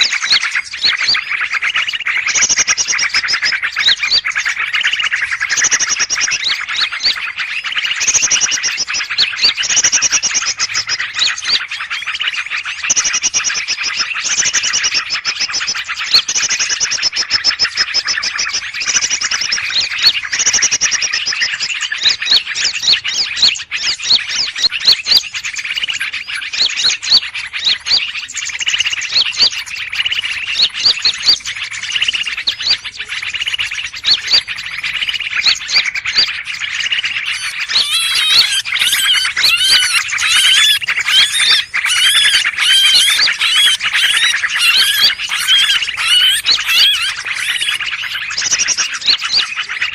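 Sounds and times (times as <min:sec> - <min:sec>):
small birds chirping chorus: 0:00.0 - 0:49.9.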